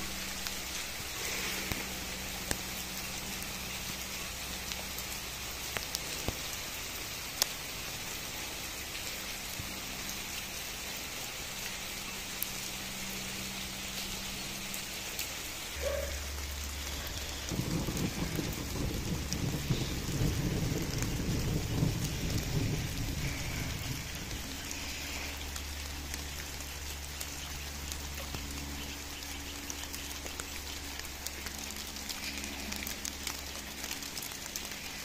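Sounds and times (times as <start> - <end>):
low rumble: 0.0 - 35.0
rain falling: 0.0 - 35.0.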